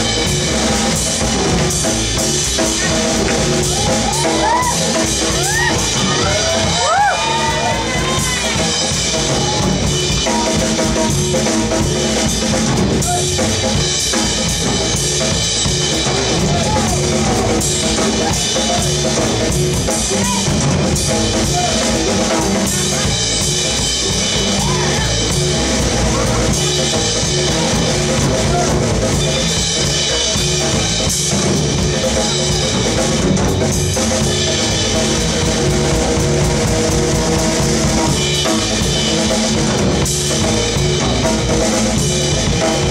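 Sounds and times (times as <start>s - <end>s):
drum kit beat: 0.0s - 42.9s
live band playing: 0.0s - 42.9s
upright double bass: 0.0s - 42.9s.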